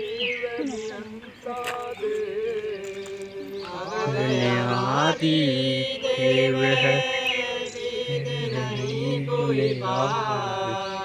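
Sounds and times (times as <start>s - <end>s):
man chanting prayer song: 0.0s - 11.0s.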